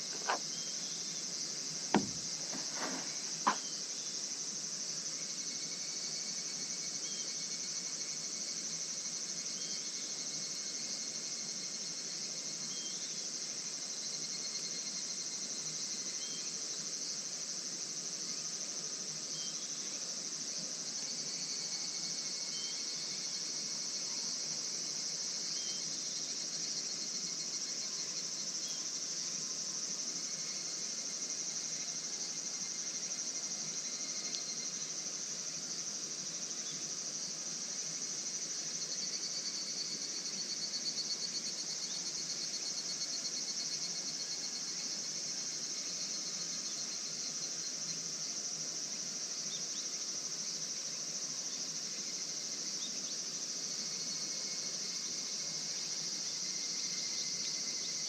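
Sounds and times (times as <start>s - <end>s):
pulsing insect trill: 0.0s - 20.0s, 20.8s - 58.0s
insects chirring: 0.0s - 58.0s.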